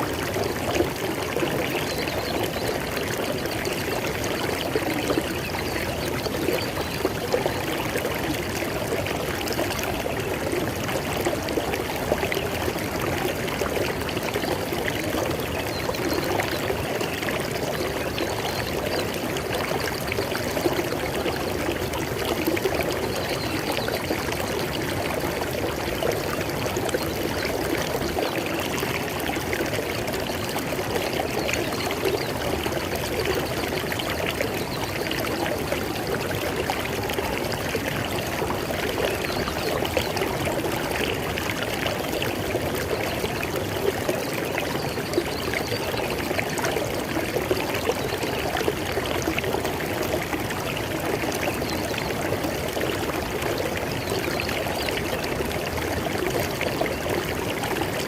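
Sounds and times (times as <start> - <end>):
river water flowing over rocks: 0.0 - 58.0.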